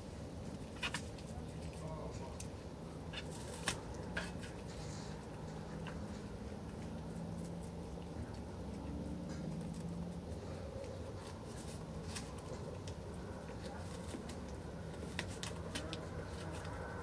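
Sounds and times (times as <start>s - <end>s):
steady low hum: 0.0s - 17.0s
deer crunching feed: 0.3s - 17.0s.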